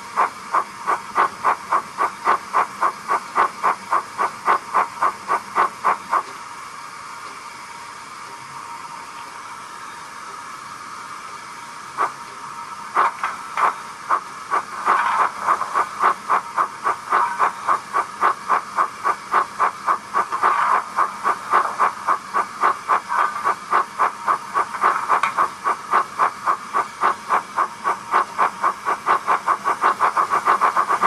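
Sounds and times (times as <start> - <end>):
model steam locomotive chuffs: 0.0 - 31.0.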